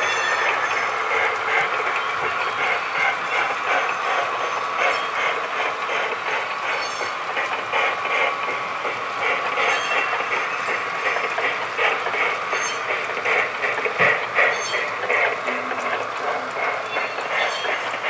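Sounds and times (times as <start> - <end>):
model train clickety-clack: 0.0 - 18.0.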